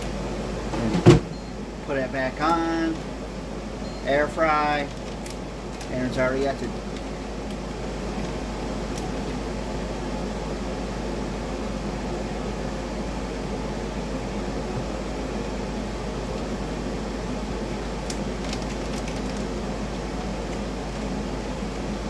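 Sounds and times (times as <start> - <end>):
fan whirring: 0.0 - 22.0.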